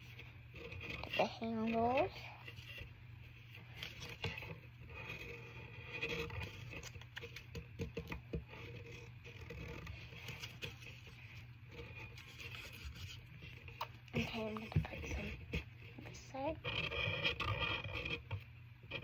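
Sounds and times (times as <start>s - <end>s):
paper scraping and rustling: 0.0s - 15.6s
low steady hum: 0.0s - 19.0s.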